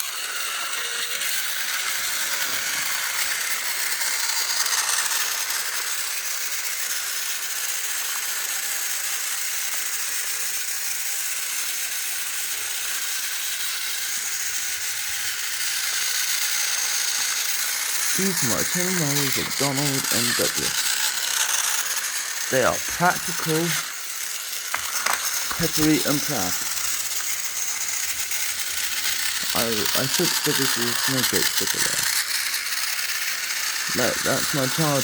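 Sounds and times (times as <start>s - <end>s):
toy train motor whirring: 0.0s - 35.0s.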